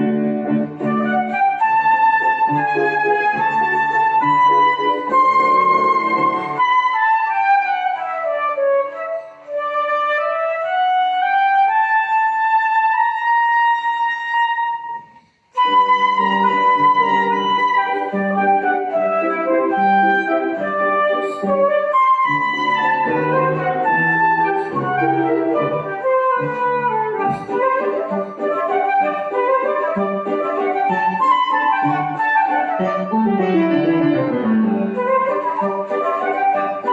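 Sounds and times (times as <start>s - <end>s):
flute melody: 0.0s - 36.9s
piano accompaniment: 0.0s - 36.9s.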